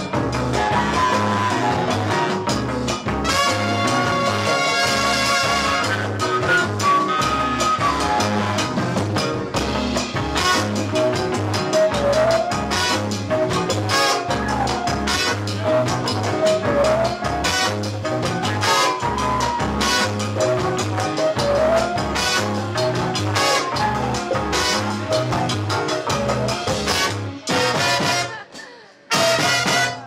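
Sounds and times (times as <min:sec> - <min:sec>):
bass: 0:00.0 - 0:30.0
drum kit: 0:00.0 - 0:30.0
latin percussion: 0:00.0 - 0:30.0
flute playing melody: 0:00.5 - 0:02.4, 0:03.2 - 0:09.0, 0:10.4 - 0:28.5
trumpets playing melody: 0:03.1 - 0:09.0, 0:10.3 - 0:28.5, 0:29.1 - 0:30.0.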